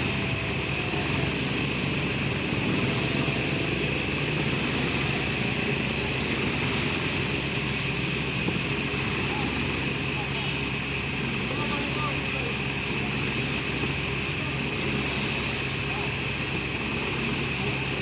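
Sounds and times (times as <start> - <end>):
high whine: 0.0 - 18.0
steady engine drone: 0.0 - 18.0.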